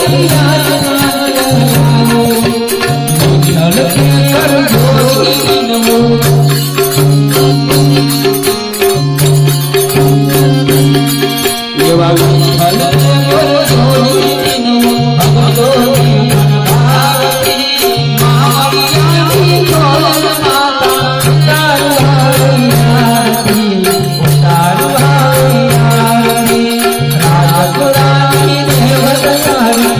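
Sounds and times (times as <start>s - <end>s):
hand percussion and rattles: 0.0s - 29.9s
harmonium chords: 0.0s - 29.9s
person singing: 0.0s - 29.9s.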